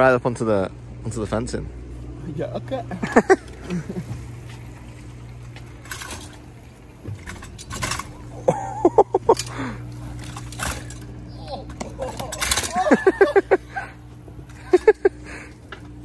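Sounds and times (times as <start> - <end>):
steady low hum: 0.0 - 16.0
bicycle frame clattering: 3.0 - 16.0.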